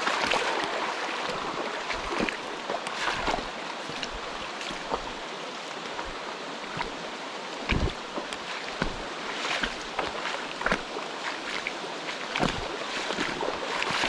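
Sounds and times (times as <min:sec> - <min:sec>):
splashes and knocks: 0:00.0 - 0:05.2, 0:05.8 - 0:14.0
mountain stream rushing: 0:00.0 - 0:14.0.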